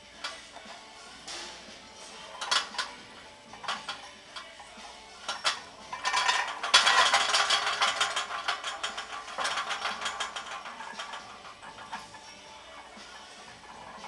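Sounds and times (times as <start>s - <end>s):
barbell plates clanking: 2.2s - 14.0s.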